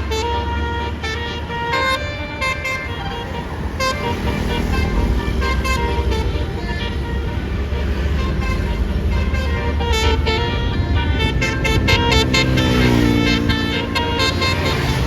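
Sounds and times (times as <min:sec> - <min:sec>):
bus engine rumble: 0:00.0 - 0:15.0
bus horn tooting notes: 0:00.0 - 0:15.0.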